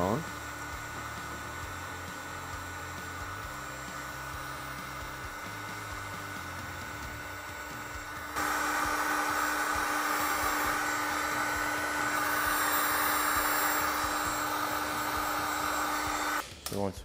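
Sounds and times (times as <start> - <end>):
heat gun blowing air: 0.0 - 16.4
motor hum: 0.0 - 16.4.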